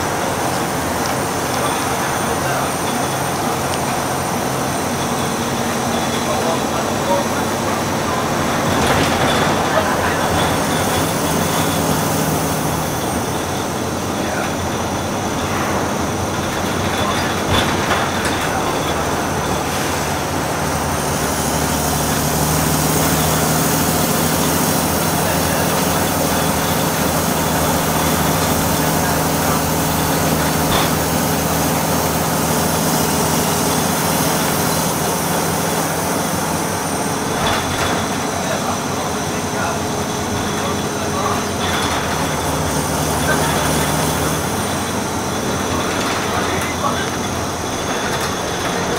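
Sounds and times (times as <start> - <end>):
bus diesel engine hum: 0.0 - 48.9
road and tyre noise: 0.0 - 48.9.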